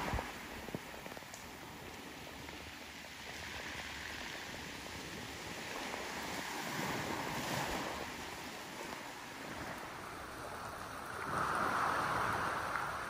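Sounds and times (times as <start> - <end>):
waves washing onto cobble beach: 0.0 - 13.0.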